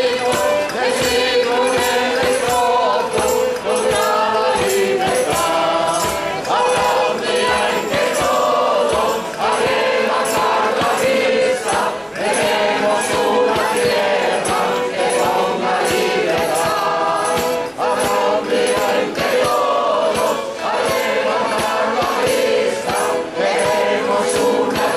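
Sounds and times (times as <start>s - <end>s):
choir singing: 0.0s - 24.9s
violin playing: 0.0s - 24.9s.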